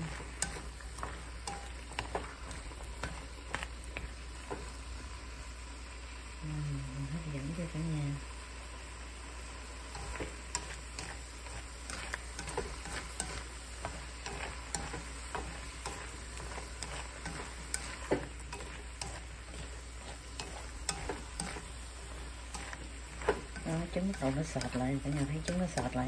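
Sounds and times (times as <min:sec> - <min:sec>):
chopsticks scraping against pan: 0:00.0 - 0:04.8, 0:09.8 - 0:26.0
food sizzling in a wok: 0:00.0 - 0:26.0.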